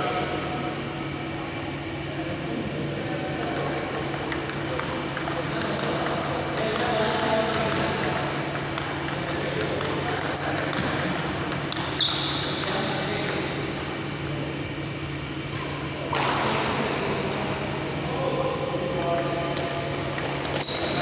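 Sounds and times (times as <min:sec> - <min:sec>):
low hum in a hall: 0:00.0 - 0:21.0.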